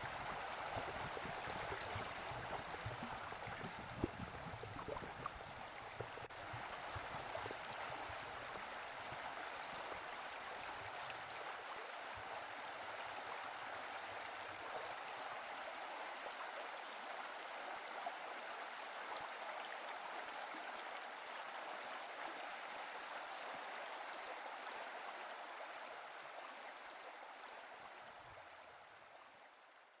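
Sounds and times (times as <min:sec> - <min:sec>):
creek water flowing over rocks: 0:00.0 - 0:30.0.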